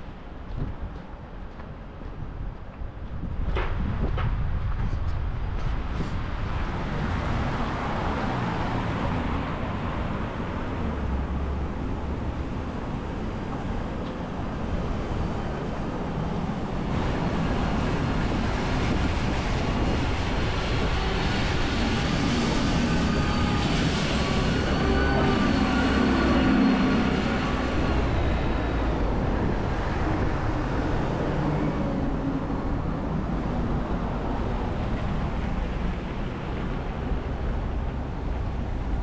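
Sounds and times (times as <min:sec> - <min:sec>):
cars passing on street: 0:00.0 - 0:39.0.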